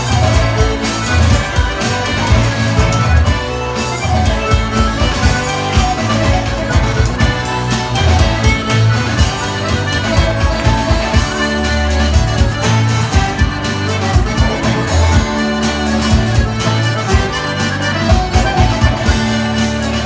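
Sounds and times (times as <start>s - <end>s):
accordion melody: 0.0s - 20.0s
live band playing: 0.0s - 20.0s.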